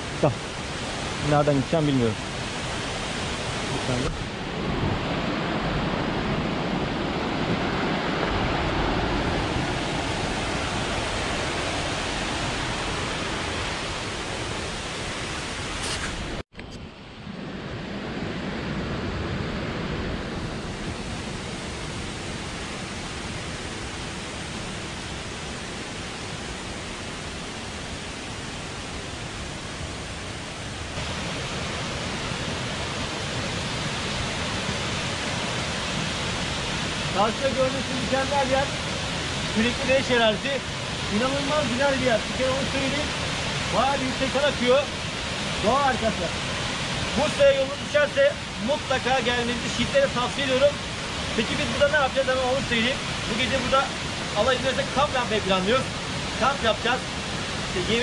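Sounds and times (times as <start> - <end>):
waterfall rushing: 0.0 - 16.4, 17.5 - 58.0.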